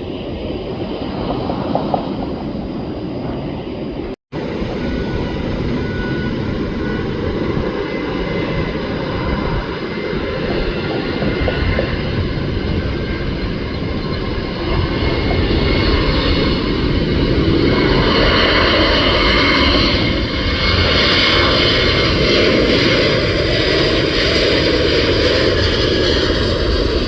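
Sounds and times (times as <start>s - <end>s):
faint jet engine whine: 0.0s - 27.0s
jet engines roaring: 0.0s - 27.0s.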